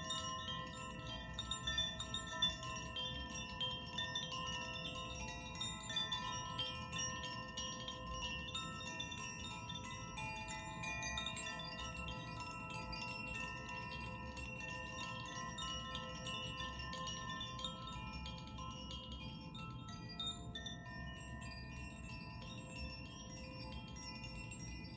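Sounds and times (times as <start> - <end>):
wind chimes ringing: 0.0 - 24.9.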